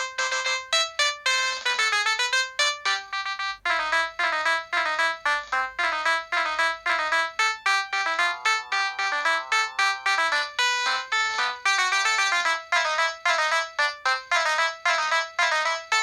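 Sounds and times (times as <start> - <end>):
fast electronic ringtone melody: 0.0 - 16.0.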